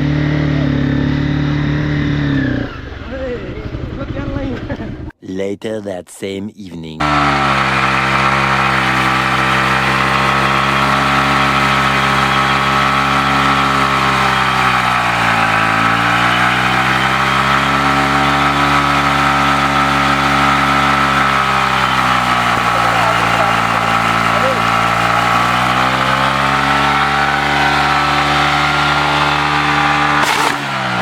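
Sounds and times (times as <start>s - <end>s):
motorcycle engine running: 0.0s - 5.1s, 7.0s - 31.0s.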